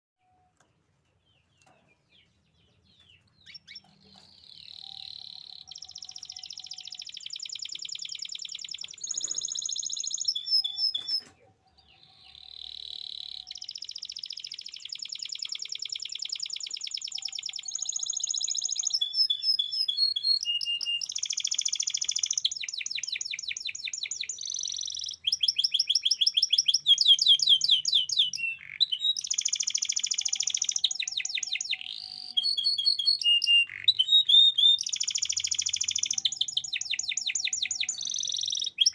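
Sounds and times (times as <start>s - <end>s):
canary singing trills: 0.2s - 38.9s.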